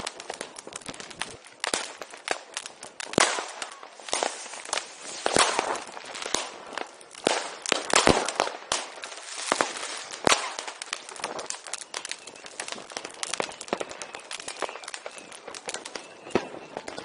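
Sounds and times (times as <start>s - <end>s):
firecrackers crackling: 0.0s - 17.0s
fireworks bangs: 0.0s - 17.0s.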